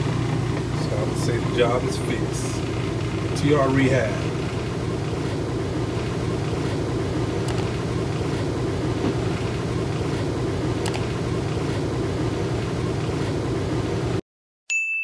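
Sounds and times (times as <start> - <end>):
washing machine spinning hum: 0.0 - 14.2.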